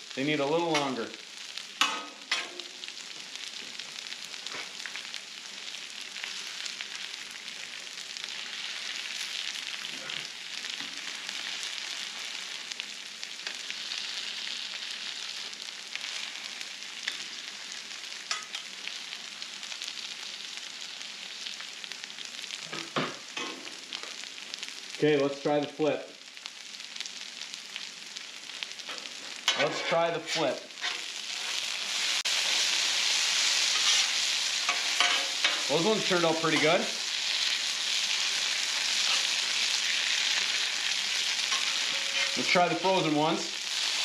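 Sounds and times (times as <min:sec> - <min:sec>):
food sizzling on a griddle: 0:00.0 - 0:44.0.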